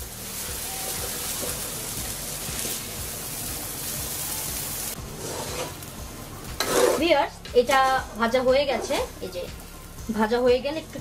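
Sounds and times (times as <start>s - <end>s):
rice sizzling in a pot: 0.0s - 11.0s.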